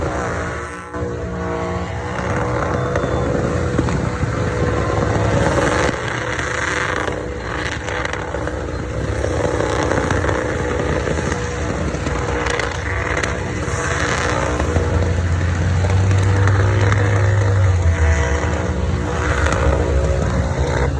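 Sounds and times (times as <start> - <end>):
truck engine at high revs: 0.0 - 20.9
tyres spinning on pavement: 0.0 - 20.9.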